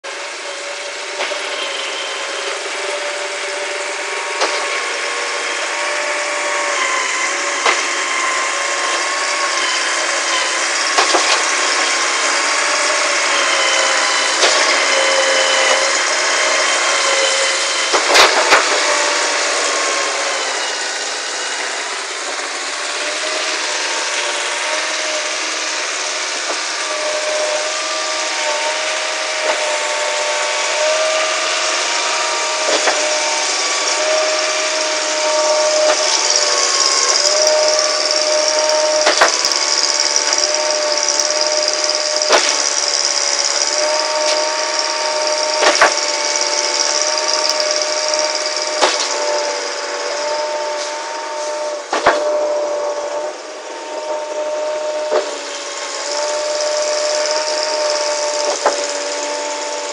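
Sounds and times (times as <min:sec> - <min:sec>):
concrete pump whine and hiss: 0:00.0 - 0:59.9.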